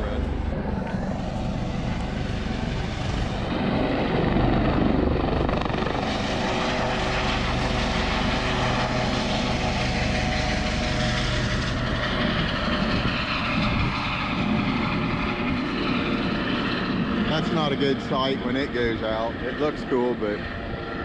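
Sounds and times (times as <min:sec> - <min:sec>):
helicopter rotor and engine: 0:00.0 - 0:21.0.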